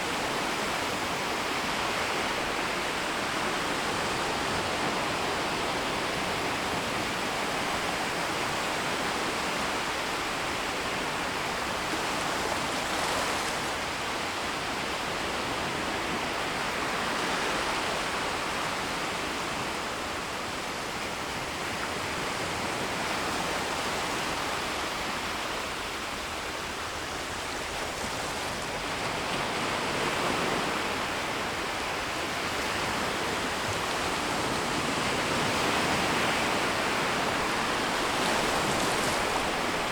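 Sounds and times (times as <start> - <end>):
gentle sea waves on shore: 0.0 - 39.9.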